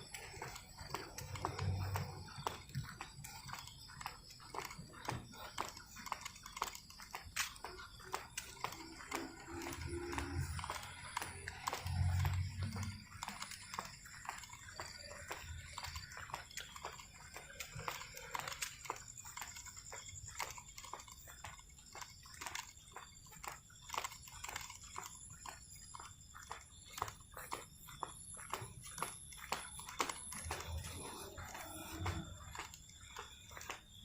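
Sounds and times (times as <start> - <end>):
footsteps walking: 0.0 - 34.0.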